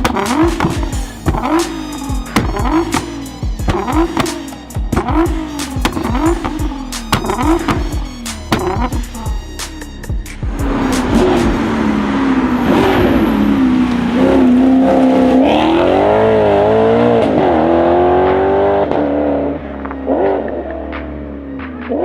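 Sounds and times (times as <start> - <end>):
car engine revving hard: 0.0 - 9.4, 10.4 - 21.3.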